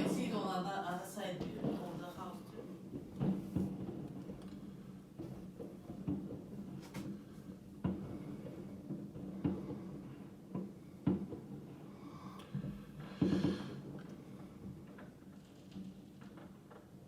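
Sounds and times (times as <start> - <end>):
distant fireworks bangs: 0.0 - 17.0.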